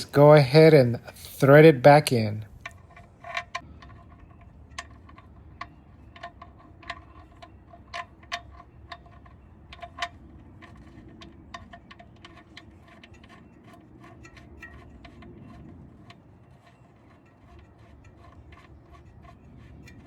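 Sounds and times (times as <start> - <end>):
metal bolt clicking and tapping: 2.5 - 20.0.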